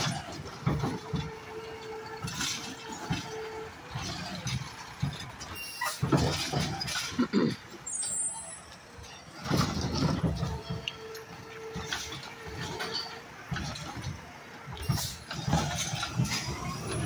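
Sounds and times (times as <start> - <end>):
garbage truck clanks and knocks: 0.0 - 17.0.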